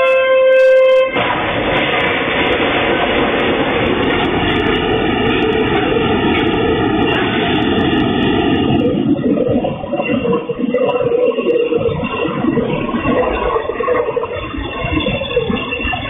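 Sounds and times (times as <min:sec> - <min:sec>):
train roaring past: 0:00.0 - 0:16.0.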